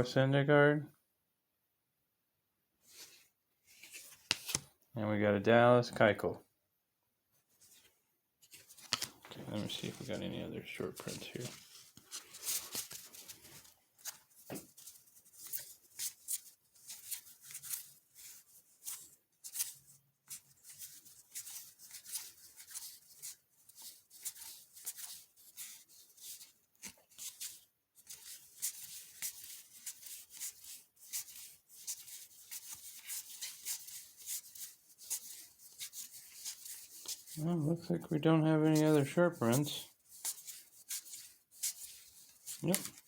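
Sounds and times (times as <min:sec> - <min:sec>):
cards flipped by hand: 0:02.9 - 0:04.7, 0:07.6 - 0:10.2, 0:10.8 - 0:19.8, 0:20.6 - 0:37.4, 0:38.7 - 0:43.0.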